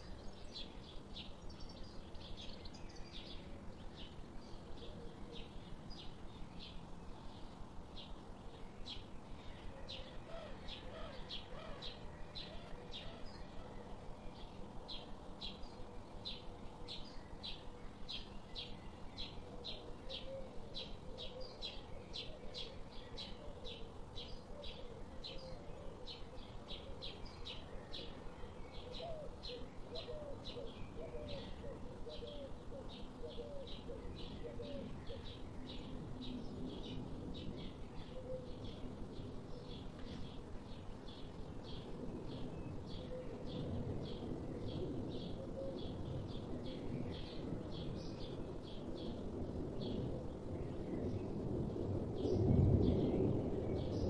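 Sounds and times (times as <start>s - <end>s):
lower wavering bird calls: 0.0s - 51.4s.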